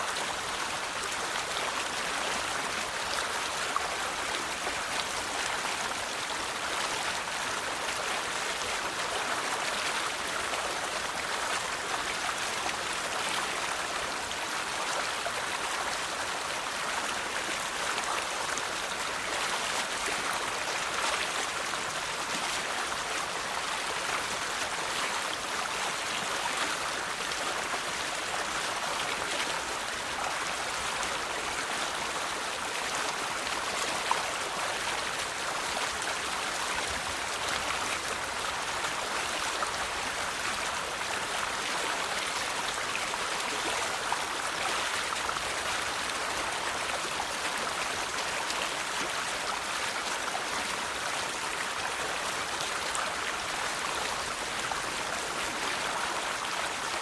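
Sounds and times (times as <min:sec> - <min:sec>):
river water babbling over stones: 0:00.0 - 0:57.0.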